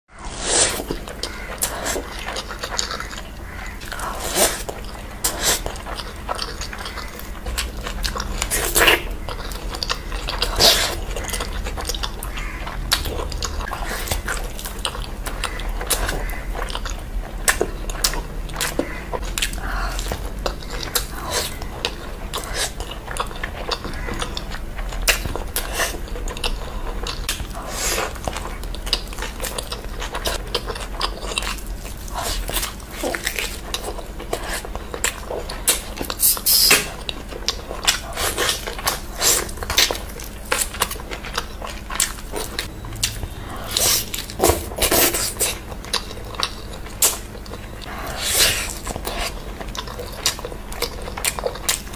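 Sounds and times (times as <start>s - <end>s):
person chewing food: 0.2s - 51.9s.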